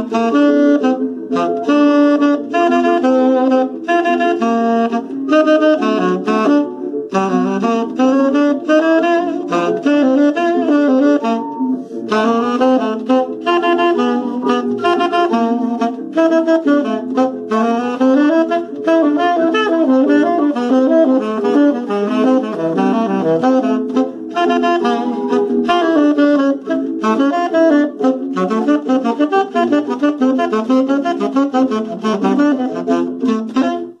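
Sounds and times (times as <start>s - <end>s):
tenor saxophone melody: 0.0s - 34.0s.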